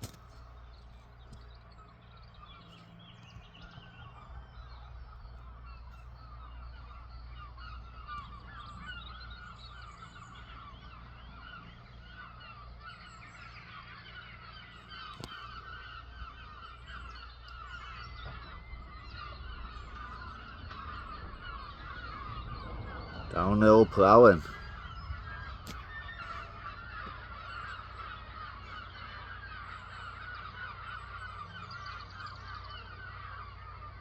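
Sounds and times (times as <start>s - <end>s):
flock of birds honking: 0.0s - 34.0s.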